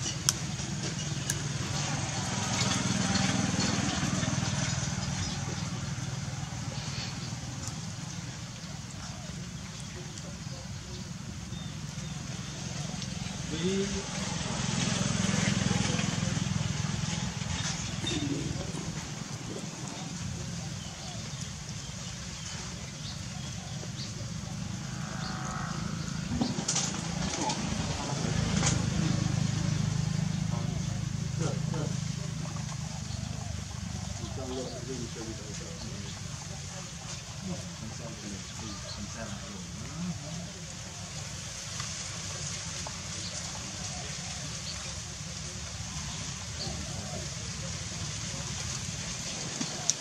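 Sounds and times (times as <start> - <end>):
motor engine humming: 0.0 - 50.0.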